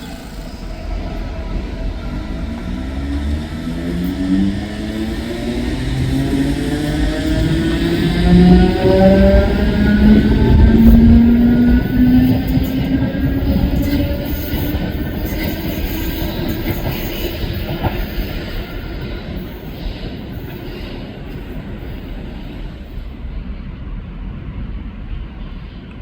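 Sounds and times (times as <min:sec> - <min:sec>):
train rumble: 0:00.0 - 0:26.0.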